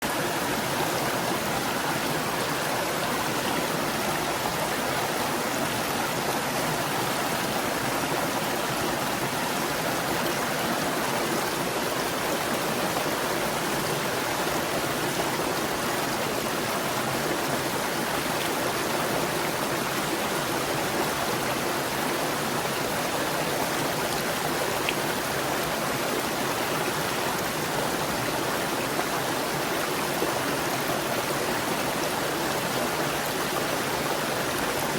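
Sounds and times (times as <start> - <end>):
stream gurgling over rocks: 0.0 - 34.9.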